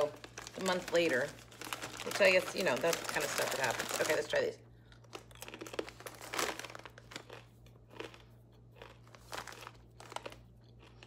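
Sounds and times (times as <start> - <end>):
person crunching pretzels: 0.0 - 11.0.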